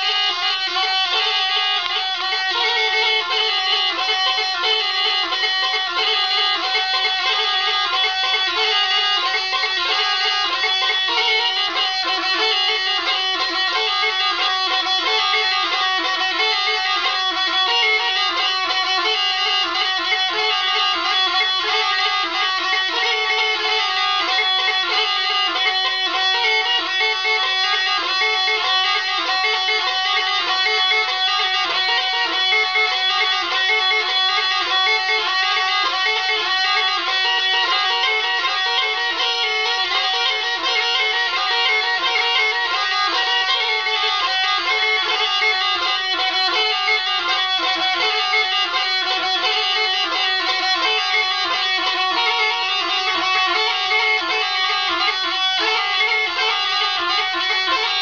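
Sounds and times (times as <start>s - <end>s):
double-chanter reed pipe tune: 0.0s - 58.0s.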